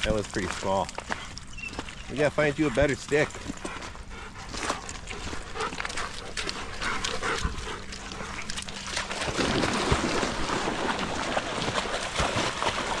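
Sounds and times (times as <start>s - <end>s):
dogs splashing in water: 0.0s - 13.0s.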